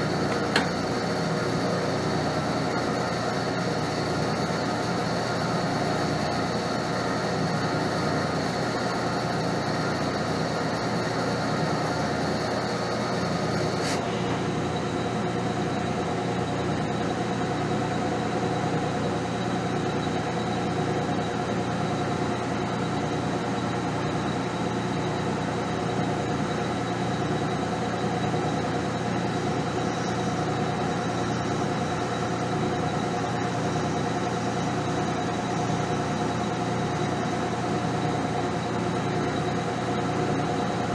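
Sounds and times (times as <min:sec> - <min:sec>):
metal lathe humming and whining: 0:00.0 - 0:40.9.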